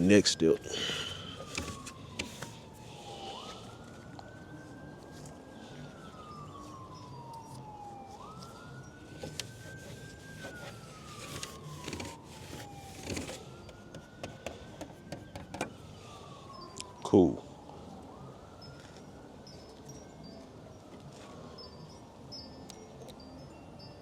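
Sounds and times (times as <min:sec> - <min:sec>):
siren wailing: 0:00.0 - 0:20.3.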